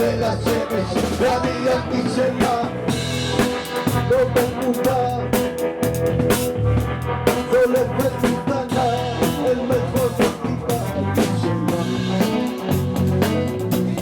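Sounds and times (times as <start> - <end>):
live rock band: 0.0 - 14.0.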